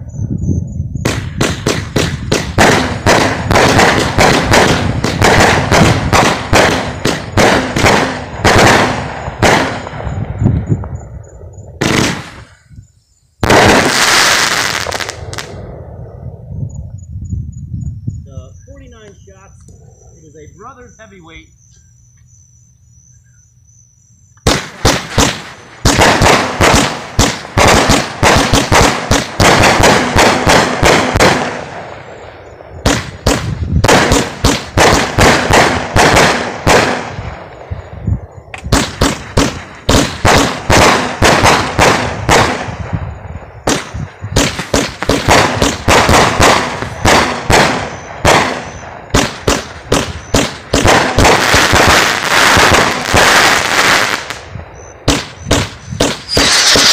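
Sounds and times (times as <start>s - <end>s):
firework shots and crackling: 1.0s - 12.8s, 13.4s - 15.9s, 24.4s - 56.9s.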